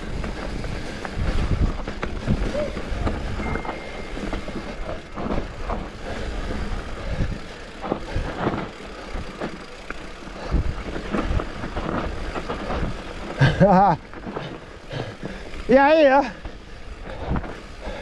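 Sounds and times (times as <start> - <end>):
bike rattling over bumps: 0.0 - 18.0
tyres rumbling on dirt: 0.0 - 18.0.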